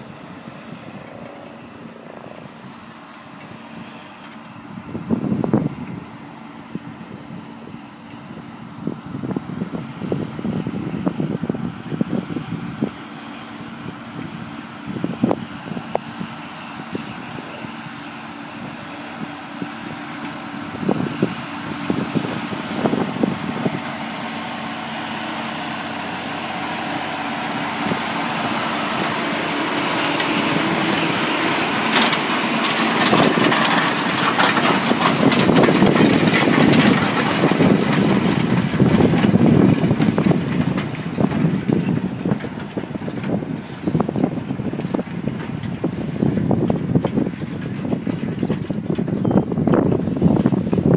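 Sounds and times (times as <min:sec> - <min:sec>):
tractor engine working: 0:00.0 - 0:50.9.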